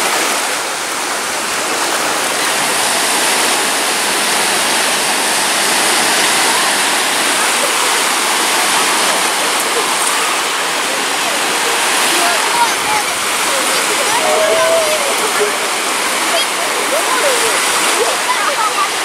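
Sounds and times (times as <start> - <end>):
sea waves breaking on beach: 0.0 - 19.0.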